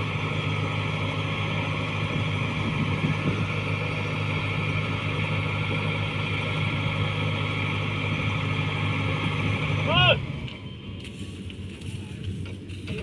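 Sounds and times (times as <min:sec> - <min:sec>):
harvester engine droning: 0:00.0 - 0:13.0.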